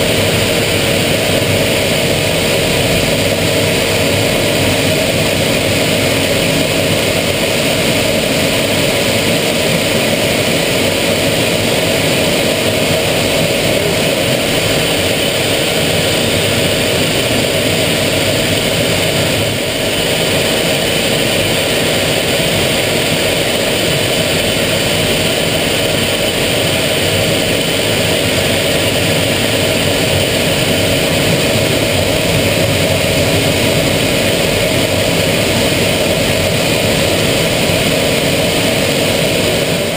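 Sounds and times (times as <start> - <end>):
constant engine whine: 0.0 - 39.9
jet engine and airflow rush: 0.0 - 39.9.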